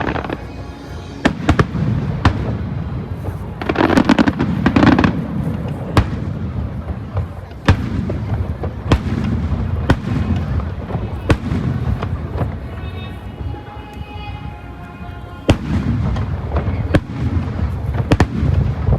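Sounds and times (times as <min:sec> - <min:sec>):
crowd murmur: 0:00.0 - 0:18.9
fireworks bangs and crackling: 0:00.0 - 0:18.9.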